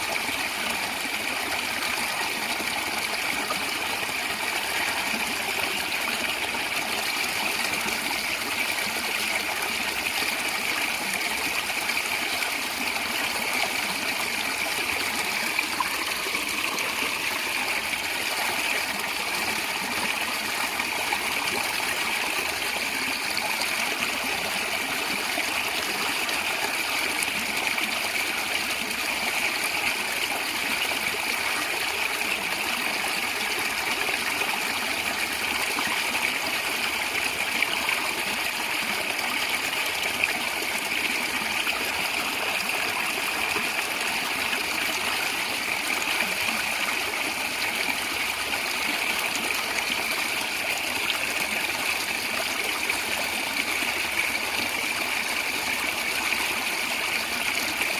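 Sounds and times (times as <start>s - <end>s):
stream gurgling and trickling: 0.0s - 57.9s.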